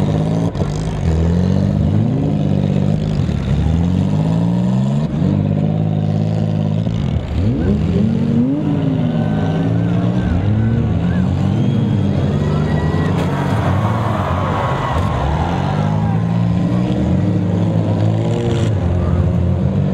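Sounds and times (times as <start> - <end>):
car engines revving: 0.0 - 19.9.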